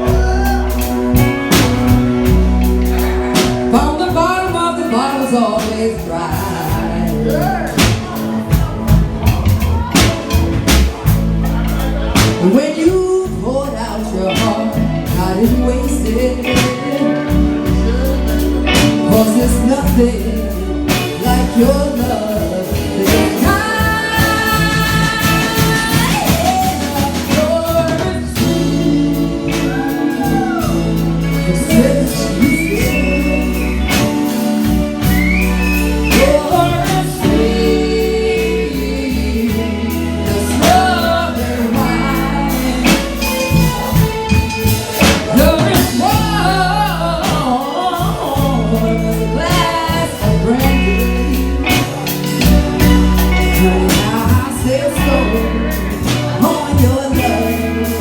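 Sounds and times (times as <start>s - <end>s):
bass line: 0.0s - 58.0s
live reggae band: 0.0s - 58.0s
pitch-bending lead melody: 0.0s - 58.0s
steady drum beat: 0.0s - 58.0s.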